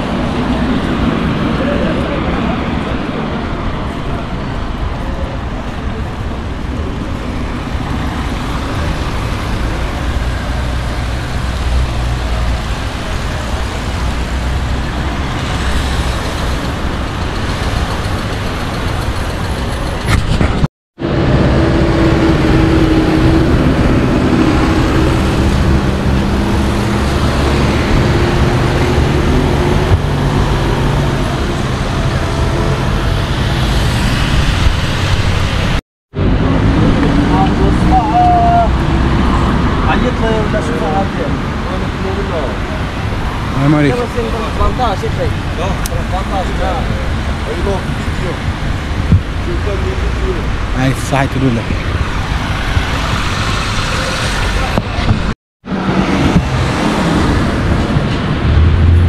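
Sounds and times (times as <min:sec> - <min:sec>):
traffic passing: 0:00.0 - 0:59.0.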